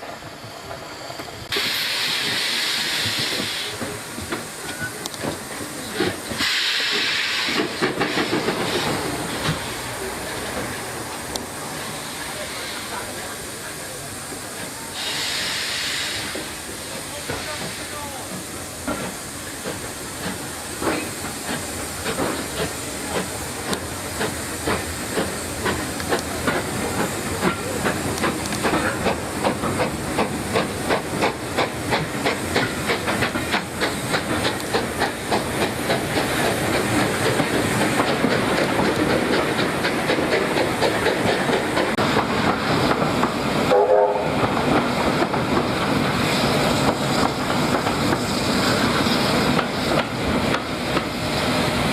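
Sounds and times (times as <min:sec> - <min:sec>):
steam hissing: 0:00.0 - 0:51.9
steam locomotive exhaust beats: 0:00.2 - 0:51.9.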